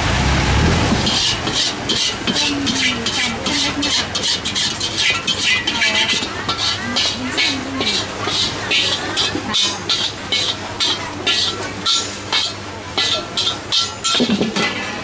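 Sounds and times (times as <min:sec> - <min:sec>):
scraping inside a metal wok: 0:01.0 - 0:15.0.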